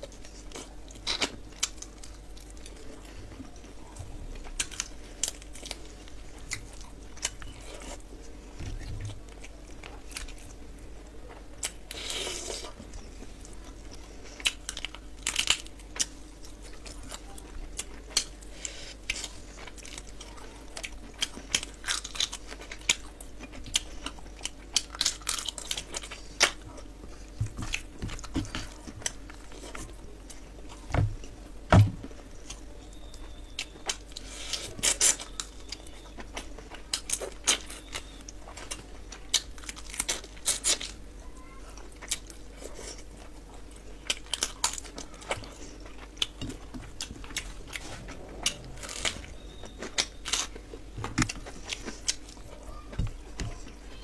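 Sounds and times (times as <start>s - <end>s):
person chewing crunchy food: 0.0s - 41.2s, 41.8s - 54.0s.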